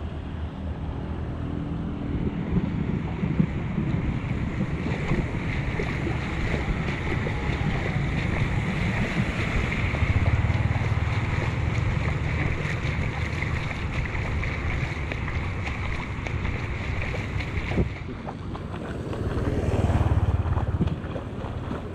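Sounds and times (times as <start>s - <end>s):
wind rumbling on microphone: 0.0s - 21.9s
shallow water washing over street: 0.1s - 21.9s.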